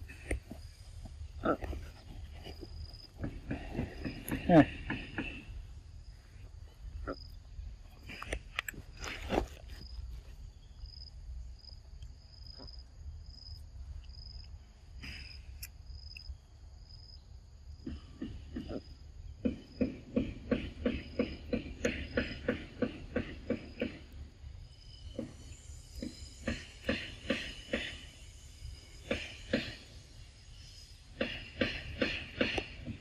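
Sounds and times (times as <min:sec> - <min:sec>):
high insect chirp: 0:00.0 - 0:33.0.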